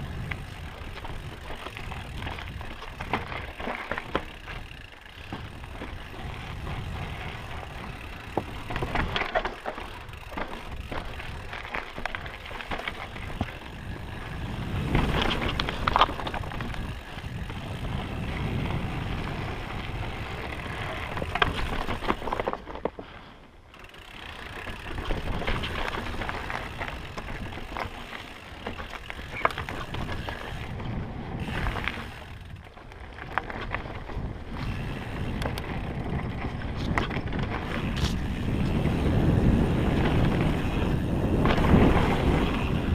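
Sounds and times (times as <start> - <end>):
bike rattling and knocking: 0.0 - 42.9
bike tyres crunching over rock: 0.0 - 42.9.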